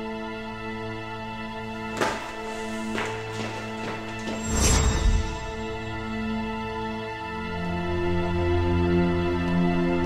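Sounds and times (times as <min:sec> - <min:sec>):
music with sustained low chord: 0:00.0 - 0:10.0.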